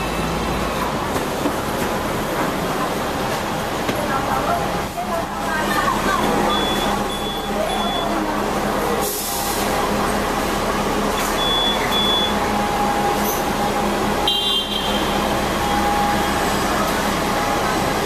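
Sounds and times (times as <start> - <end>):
street traffic: 0.0 - 18.0
tram rumbling: 0.0 - 18.0.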